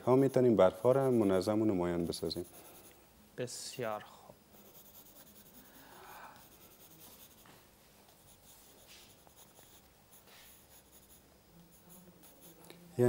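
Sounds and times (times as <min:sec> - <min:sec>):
pencil scratching on paper: 0:00.1 - 0:02.9, 0:04.6 - 0:12.6.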